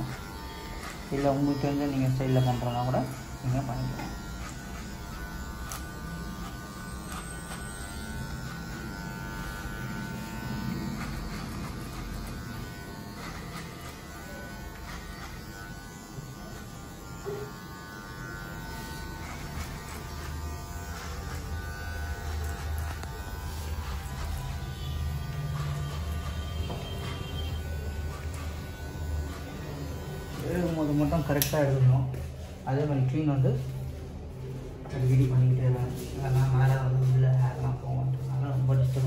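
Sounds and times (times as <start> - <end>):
electric hair clipper buzzing: 0.0 - 32.9.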